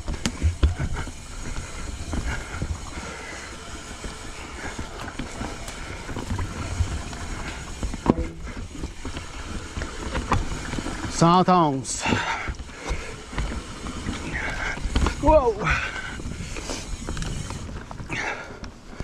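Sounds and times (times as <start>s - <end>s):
bike frame rattling and knocking: 0.0s - 19.0s
bike tyres rumbling over dirt: 0.0s - 19.0s.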